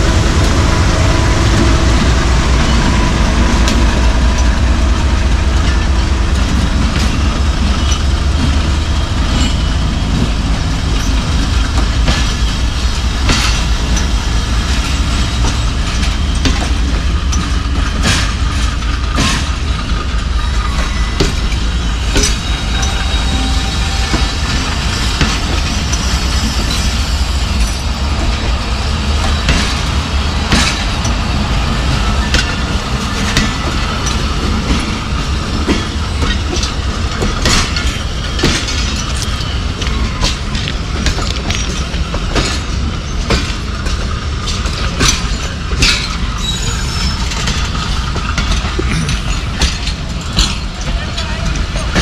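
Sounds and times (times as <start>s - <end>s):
train wheels rumbling on track: 0.0s - 52.0s
wheels clicking over rail joints: 5.5s - 28.6s, 29.2s - 52.0s.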